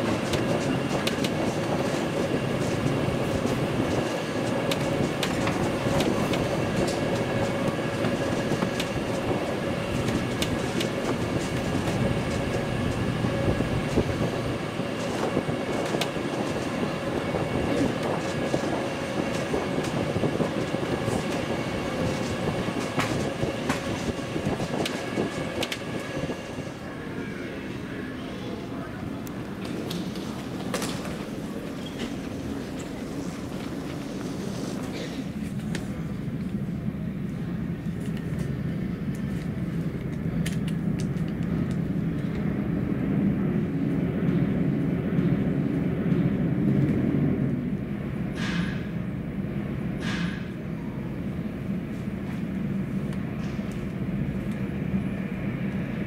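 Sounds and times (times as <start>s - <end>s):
electric cart rolling rumble: 0.0s - 56.0s.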